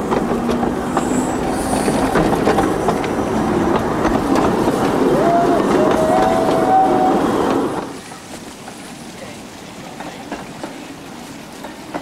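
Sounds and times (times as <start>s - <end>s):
train wheels rattling on track: 0.0s - 12.0s.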